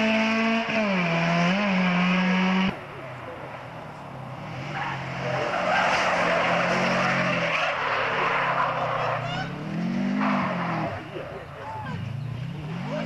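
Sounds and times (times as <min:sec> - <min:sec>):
car engine at full throttle: 0:00.0 - 0:13.0
tyres skidding: 0:00.0 - 0:13.0.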